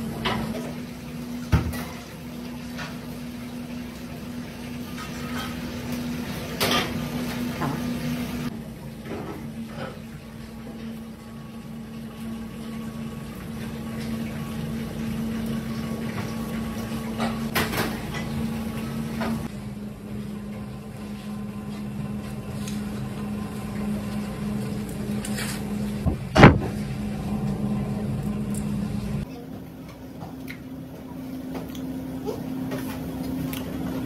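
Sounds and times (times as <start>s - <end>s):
kitchen machinery humming: 0.0s - 34.0s.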